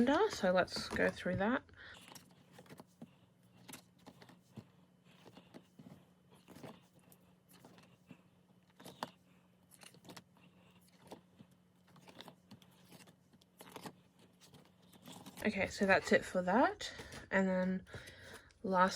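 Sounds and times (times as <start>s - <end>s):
calendar pages rustling: 0.0s - 18.9s
low steady hum: 0.0s - 18.9s.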